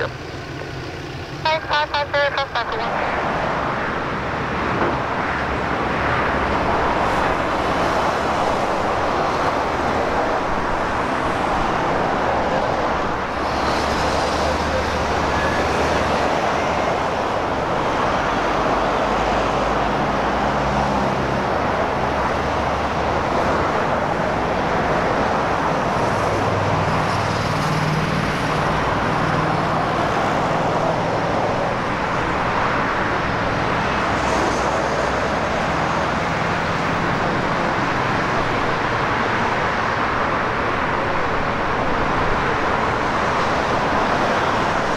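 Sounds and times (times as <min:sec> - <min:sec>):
cars passing on motorway: 0:00.0 - 0:44.9.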